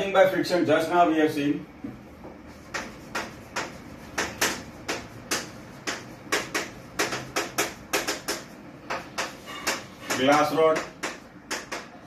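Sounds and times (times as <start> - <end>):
chalk writing on blackboard: 2.2 - 12.0.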